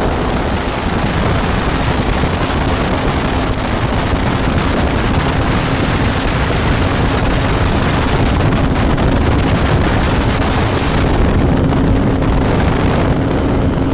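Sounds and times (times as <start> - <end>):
aircraft engine humming: 0.0 - 13.9
wind rushing on microphone: 0.0 - 13.9.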